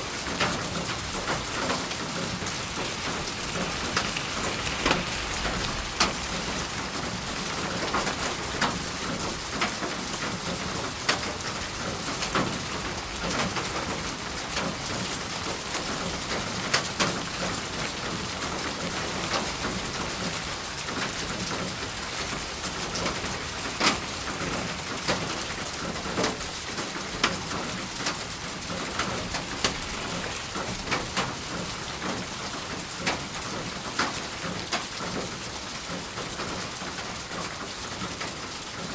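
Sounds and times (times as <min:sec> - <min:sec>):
raindrops ticking close by: 0:00.0 - 0:38.9
steady rain falling: 0:00.0 - 0:38.9.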